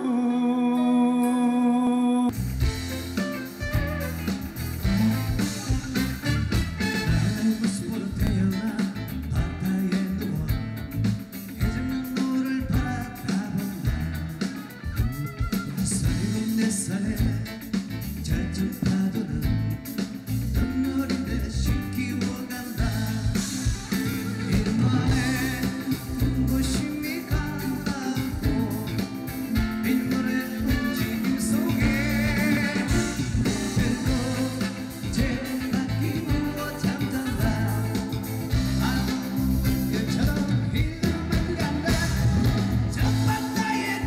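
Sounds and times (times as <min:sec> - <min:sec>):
guitar: 0:00.0 - 0:44.0
live band music: 0:02.3 - 0:44.0.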